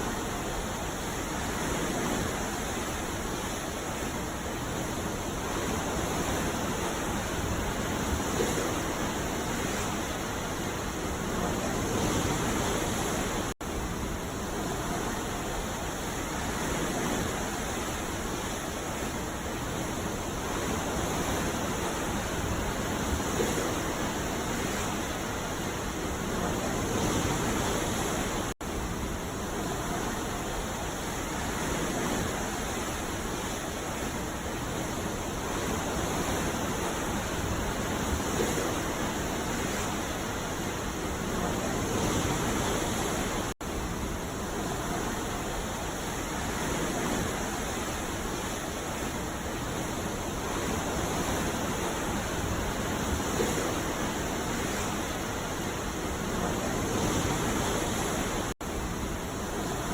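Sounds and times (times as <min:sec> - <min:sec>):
ocean surf washing onto beach: 0:00.0 - 0:59.9.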